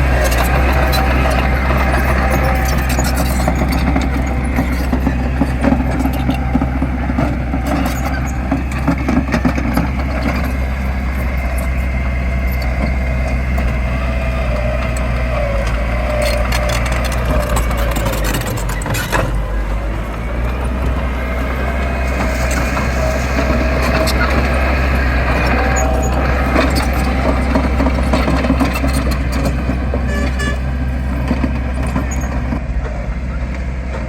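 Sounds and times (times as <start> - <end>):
diesel machinery engine drone: 0.0 - 34.0.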